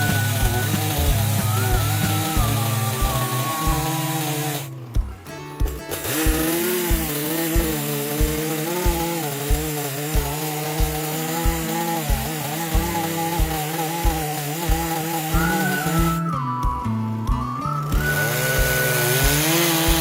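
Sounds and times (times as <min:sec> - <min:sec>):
background music with steady beat: 0:00.0 - 0:20.0
chainsaw cutting wood: 0:00.0 - 0:20.0.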